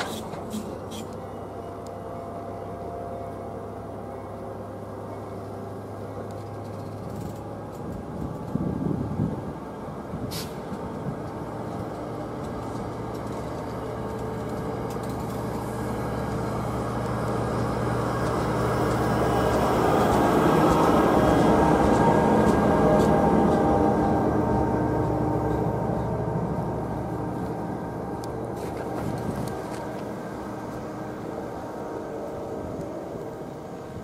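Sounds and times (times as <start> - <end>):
diesel train engine drone: 0.0 - 34.0.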